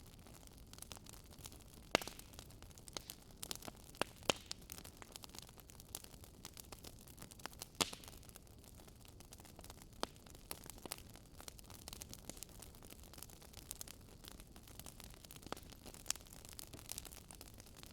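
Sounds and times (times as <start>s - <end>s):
fire crackling and popping: 0.0s - 17.9s.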